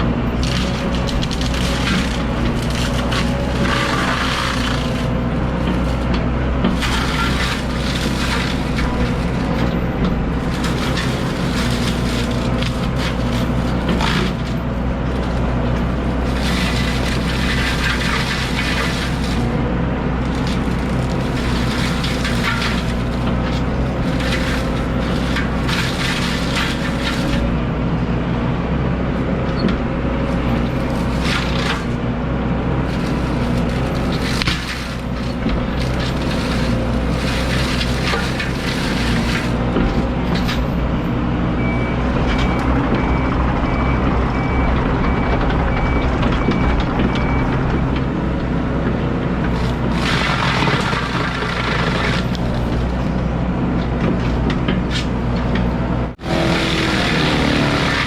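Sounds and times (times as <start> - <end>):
excavator engine under load: 0.0 - 58.0
mulcher crunching wood: 0.0 - 58.0.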